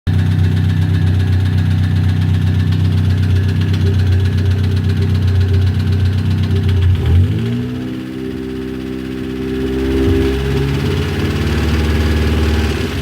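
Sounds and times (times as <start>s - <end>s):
engine idling with rapid knock: 0.1s - 13.0s.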